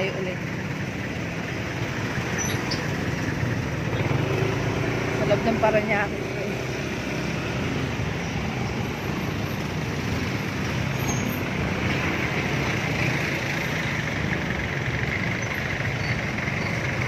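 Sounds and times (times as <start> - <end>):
city traffic: 0.0 - 17.0
scooter engine: 0.0 - 17.0.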